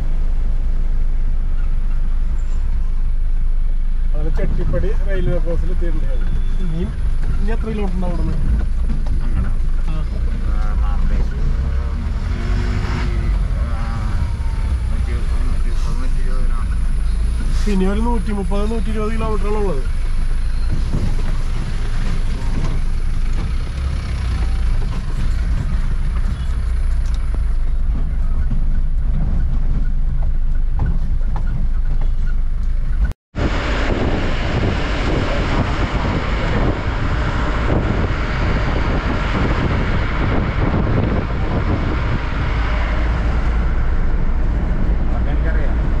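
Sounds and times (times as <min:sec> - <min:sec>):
truck engine drone: 0:00.0 - 0:46.0
tyre and wind noise: 0:04.4 - 0:15.6, 0:19.9 - 0:46.0.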